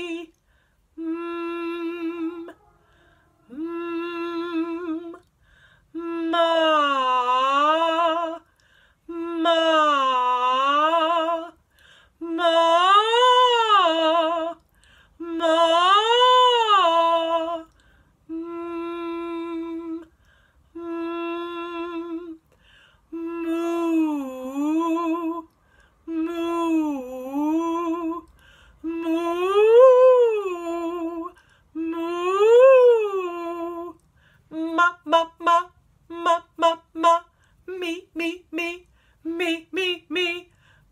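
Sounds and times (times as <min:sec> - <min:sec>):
woman vocal warm-up: 0:00.0 - 0:02.6, 0:03.5 - 0:40.9.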